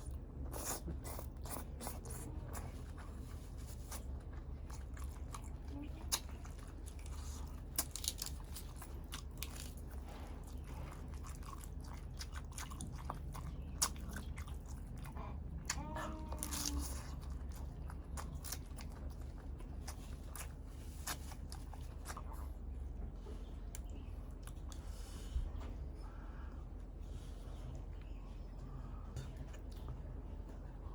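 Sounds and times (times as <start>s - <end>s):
chewing and crunching: 0.0s - 25.8s.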